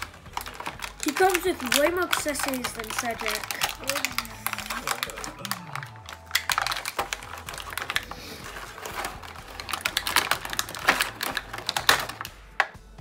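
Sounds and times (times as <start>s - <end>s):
stiff plastic packaging crinkling: 0.0s - 12.6s.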